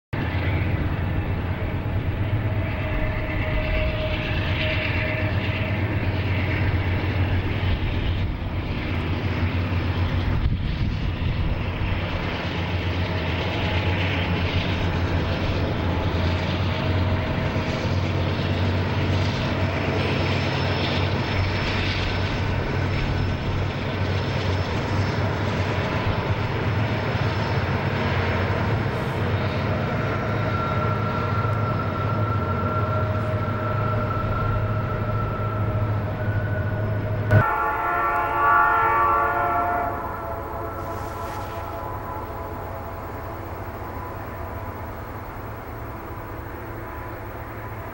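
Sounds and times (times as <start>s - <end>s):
diesel locomotive engine drone: 0.1s - 47.9s.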